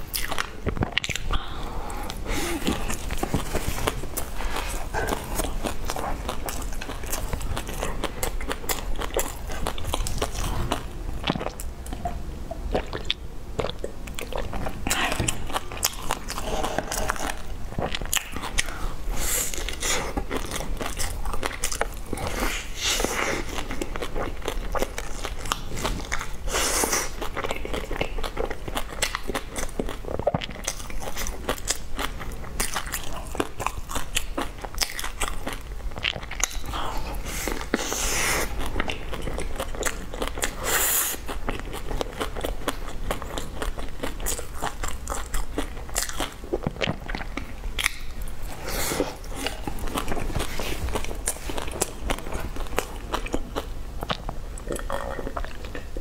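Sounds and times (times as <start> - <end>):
crunchy chewing: 0.0 - 12.0, 12.7 - 56.0
wet mouth sounds: 0.0 - 31.8, 32.6 - 56.0.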